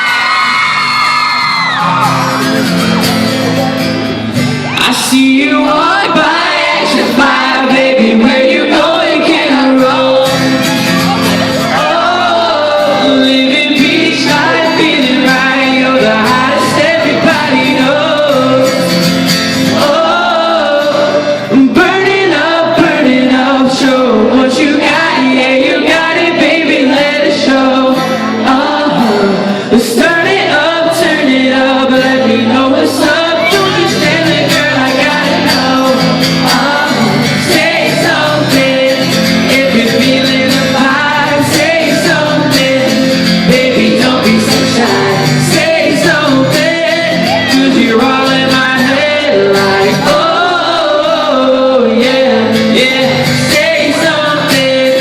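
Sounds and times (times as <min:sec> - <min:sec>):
loud backing track: 0:00.0 - 0:55.0
person singing pop song: 0:00.0 - 0:55.0.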